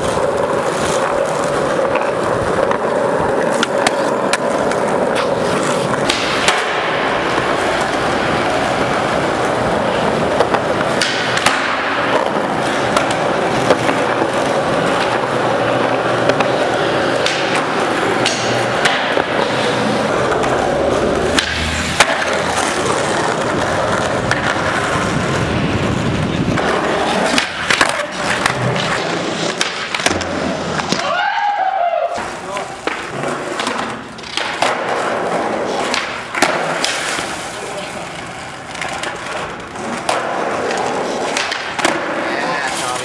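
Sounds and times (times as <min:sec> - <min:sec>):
skateboard tail clacks: 0:00.0 - 0:43.0
skateboard wheels rolling on concrete: 0:00.0 - 0:43.0.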